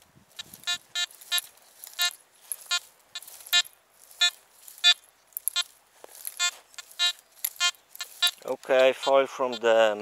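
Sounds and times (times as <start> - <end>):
metal detector beeping: 0.3 - 10.0.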